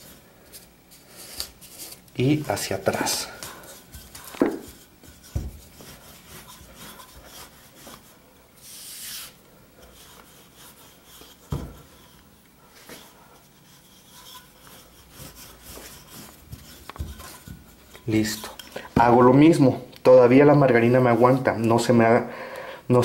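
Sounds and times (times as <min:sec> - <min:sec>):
rolling pin rubbing on dough: 0:00.8 - 0:19.6, 0:20.3 - 0:22.0.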